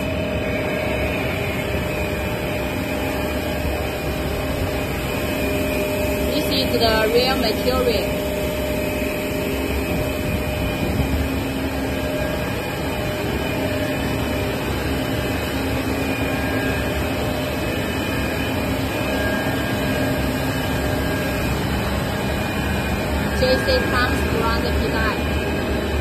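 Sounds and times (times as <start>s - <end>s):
machinery drone: 0.0s - 26.0s
faint steady tones: 0.1s - 26.0s.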